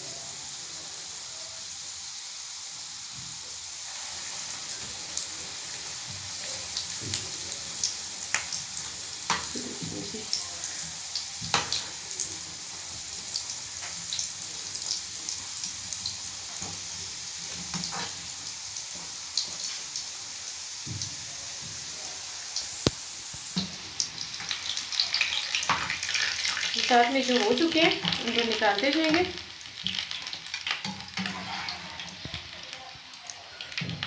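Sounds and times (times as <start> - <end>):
oil sizzling with pops: 1.6 - 34.0.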